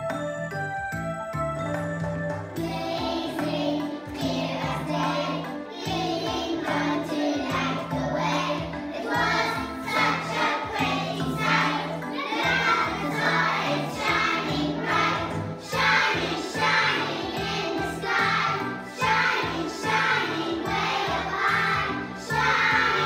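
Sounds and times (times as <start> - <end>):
instrumental accompaniment: 0.0 - 23.0
children singing in unison: 2.6 - 23.0.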